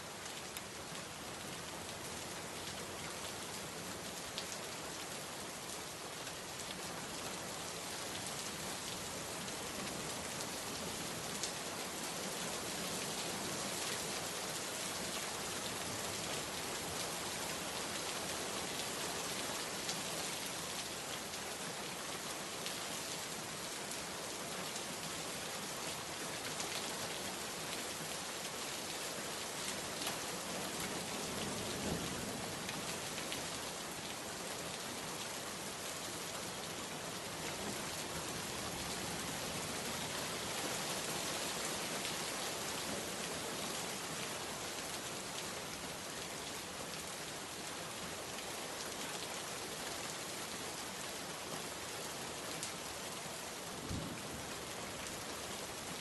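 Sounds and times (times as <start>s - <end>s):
heavy rain falling: 2.8s - 56.0s.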